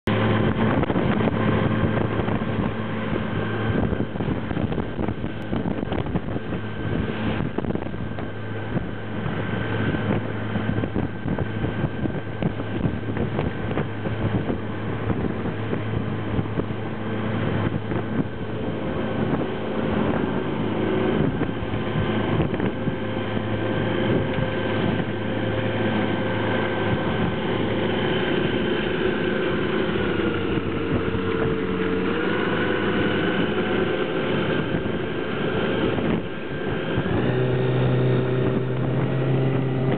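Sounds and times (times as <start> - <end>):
boat hull slapping waves: 0.0 - 39.9
outboard motor droning: 0.0 - 39.9.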